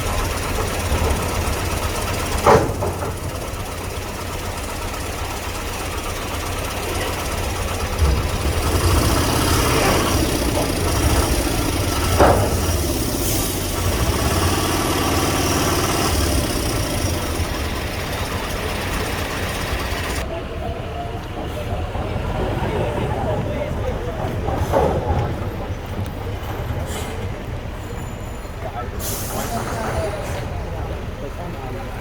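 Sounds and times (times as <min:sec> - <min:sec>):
heavy vehicle engine idling: 0:00.0 - 0:32.0.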